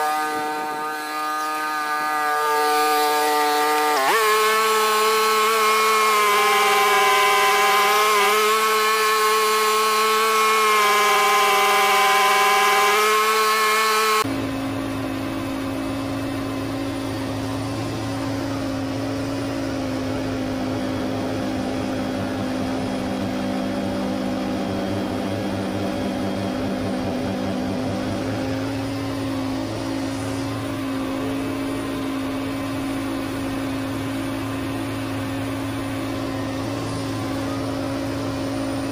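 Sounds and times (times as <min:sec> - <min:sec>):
lawn tractor engine and snowblower: 0:00.0 - 0:38.9.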